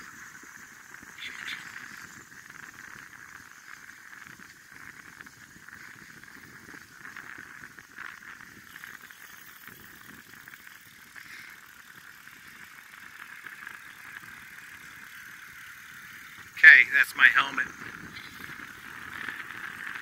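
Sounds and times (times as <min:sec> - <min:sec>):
bicycle tyres on paved road: 0:00.0 - 0:20.0
continuous hiss: 0:00.0 - 0:20.0.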